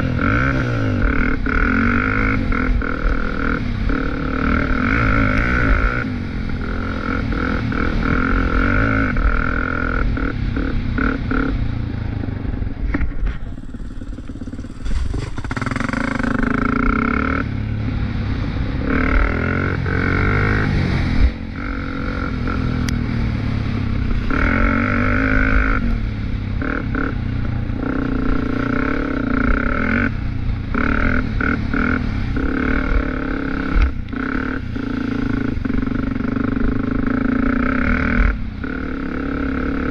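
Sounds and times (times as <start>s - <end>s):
off-road vehicle engine revving: 0.0s - 12.2s, 12.9s - 39.9s.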